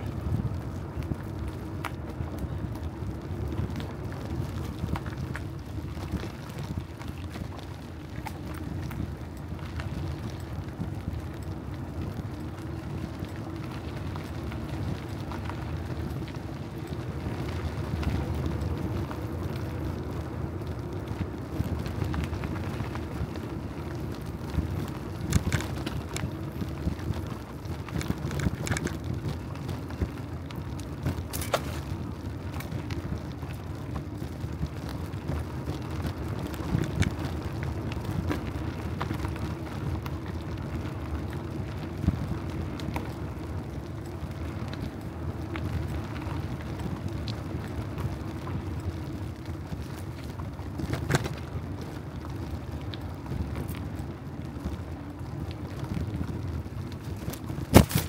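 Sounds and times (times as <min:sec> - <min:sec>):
bicycle rolling noise: 0:00.0 - 0:58.0
wind rumble: 0:00.0 - 0:58.0.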